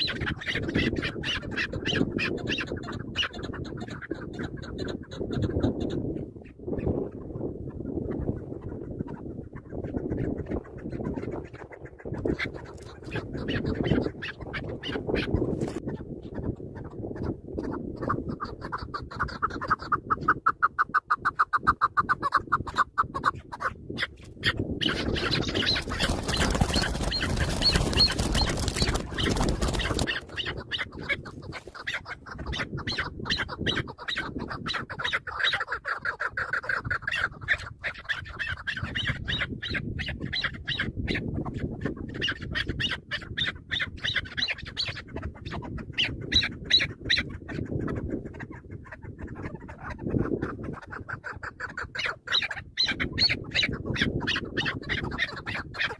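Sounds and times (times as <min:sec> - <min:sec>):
partridges calling: 0:00.0 - 0:55.9.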